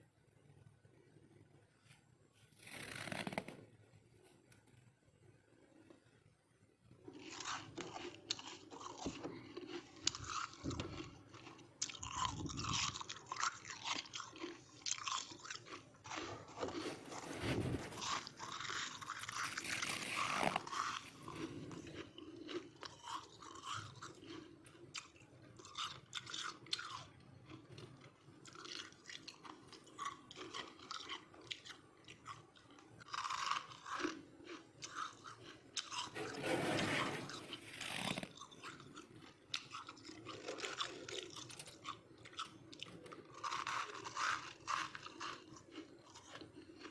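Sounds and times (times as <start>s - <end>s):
ice crunching between teeth: 7.0s - 36.4s, 37.1s - 46.9s.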